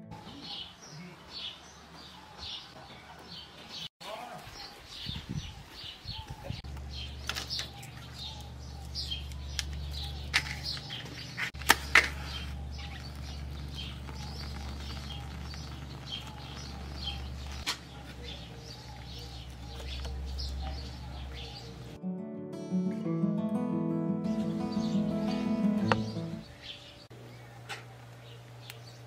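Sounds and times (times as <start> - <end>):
birds chirping: 0.0 - 22.0, 24.0 - 29.0.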